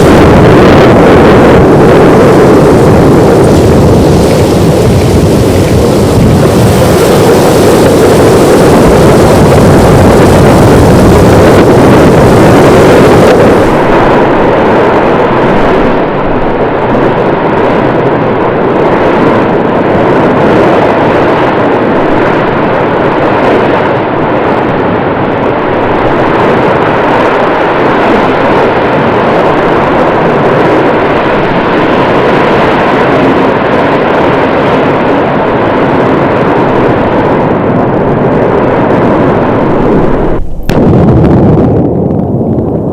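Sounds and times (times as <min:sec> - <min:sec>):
volcanic eruption rushing noise: 0:00.0 - 0:42.9.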